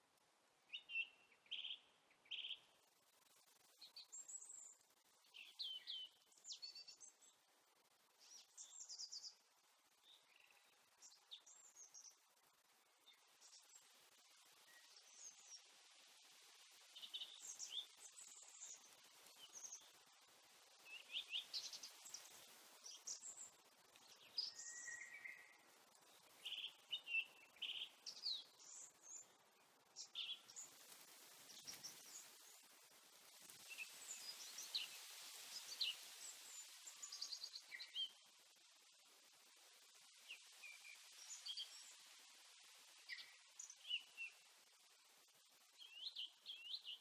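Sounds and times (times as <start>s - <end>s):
faint outdoor background hiss: 0.0s - 47.0s
small birds chirping: 0.6s - 47.0s.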